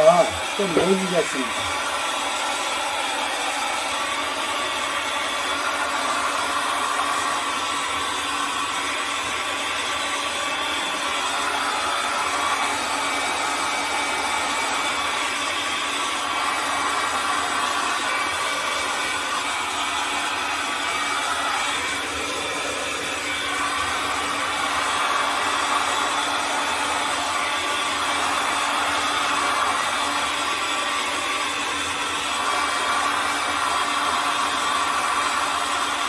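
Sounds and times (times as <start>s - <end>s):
hair dryer blowing: 0.0s - 36.0s.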